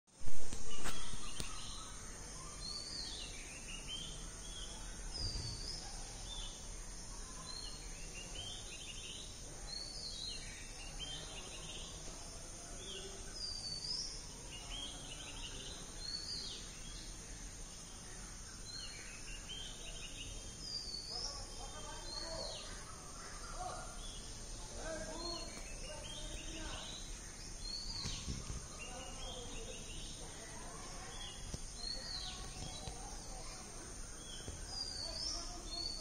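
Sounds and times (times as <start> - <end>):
birds chirping: 0.2 - 36.0.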